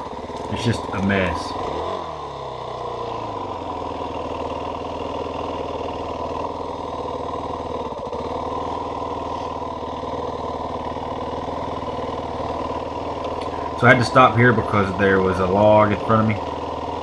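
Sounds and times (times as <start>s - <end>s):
dirt bike engine idling: 0.0s - 17.0s.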